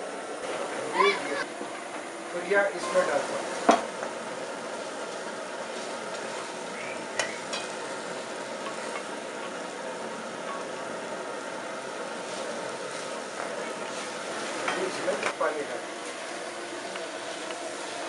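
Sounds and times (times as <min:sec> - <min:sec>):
meat sizzling in oil: 0:02.2 - 0:18.0.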